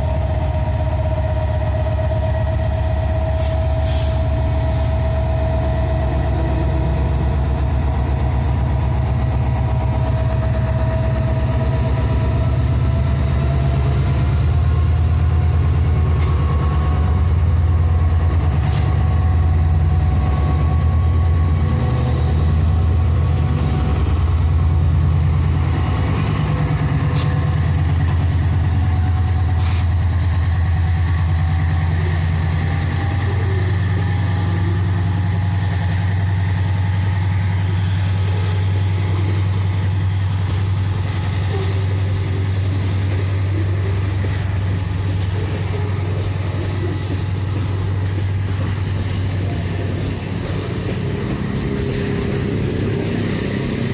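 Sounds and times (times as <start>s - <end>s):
locomotive engine droning: 0.0s - 53.9s.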